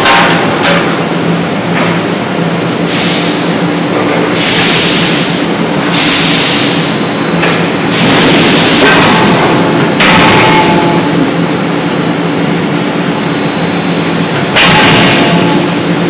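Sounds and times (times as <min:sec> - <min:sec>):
machinery low hum: 0:00.0 - 0:16.0
machinery hiss: 0:02.8 - 0:16.0.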